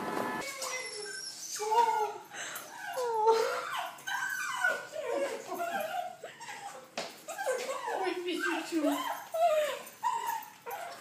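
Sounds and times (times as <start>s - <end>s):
small dog whining and yipping: 0.4s - 11.0s.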